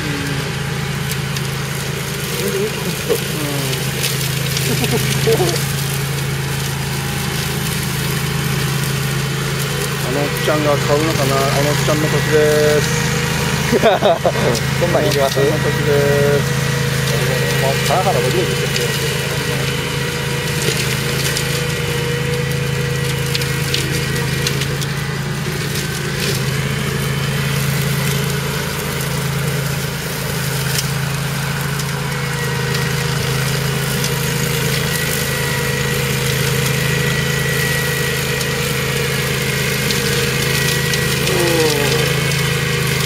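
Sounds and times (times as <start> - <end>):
blades cutting grass: 0.0 - 43.0
mower engine running: 0.0 - 43.0.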